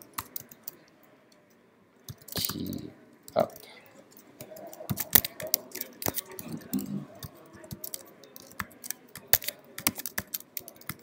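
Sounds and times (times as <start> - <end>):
computer keyboard typing: 0.0 - 0.9, 2.1 - 11.0.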